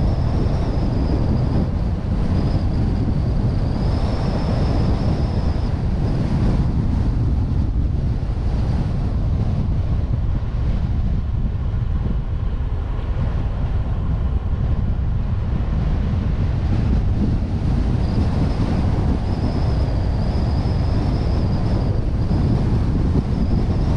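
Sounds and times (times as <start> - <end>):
vehicle road and engine noise: 0.0 - 23.9
wind rumbling on microphone: 0.0 - 23.9.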